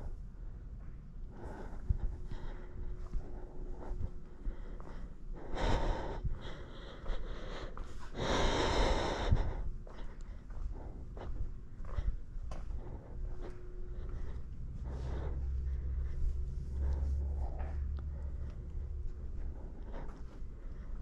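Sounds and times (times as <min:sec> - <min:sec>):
person breathing heavily: 0:01.2 - 0:21.0.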